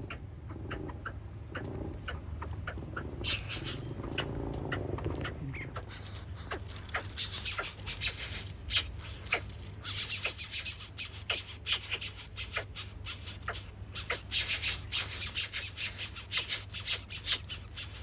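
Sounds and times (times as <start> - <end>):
birds calling shrilly: 0.0 - 18.0.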